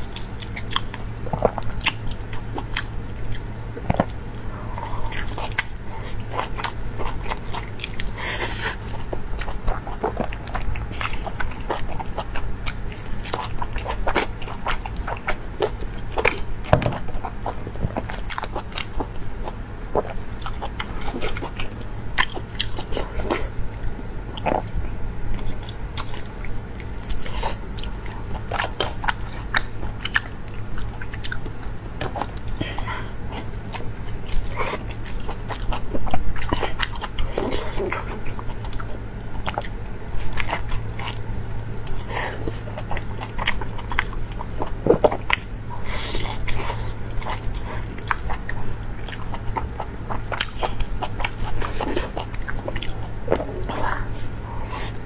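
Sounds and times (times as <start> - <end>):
biting and chewing meat: 0.0 - 55.0
steady low hum: 0.0 - 55.0.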